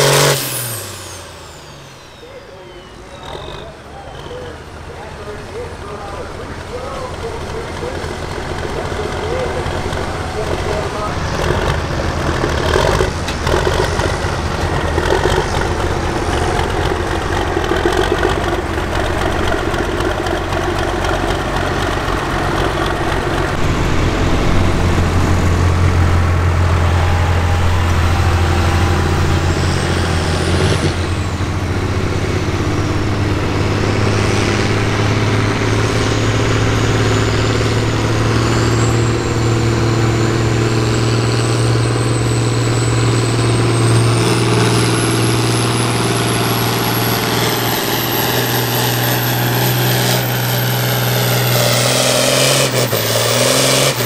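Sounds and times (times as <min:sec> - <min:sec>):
tractor engine deep hum: 0:00.0 - 0:54.0.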